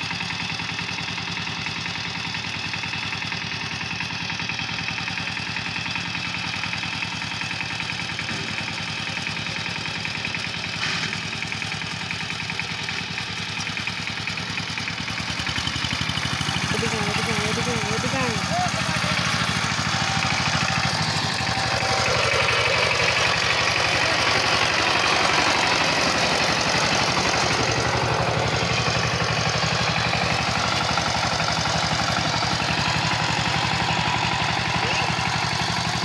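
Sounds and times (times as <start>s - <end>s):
diesel engine chugging: 0.0s - 36.0s.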